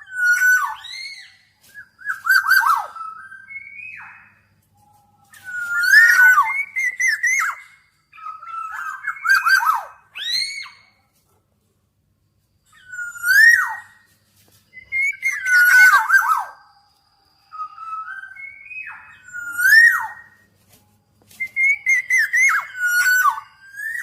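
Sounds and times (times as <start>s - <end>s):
bird singing whistled phrases: 0.0s - 11.1s, 12.7s - 14.1s, 14.7s - 20.5s, 21.3s - 24.0s.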